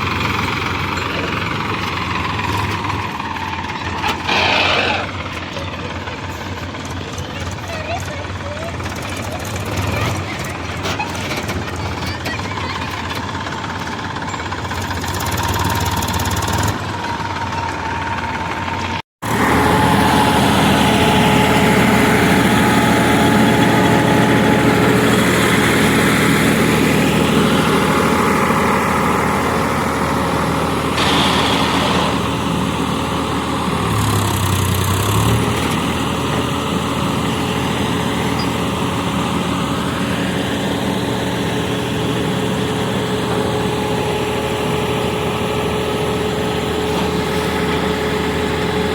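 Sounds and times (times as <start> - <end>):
heavy machinery diesel engine: 0.0 - 48.9.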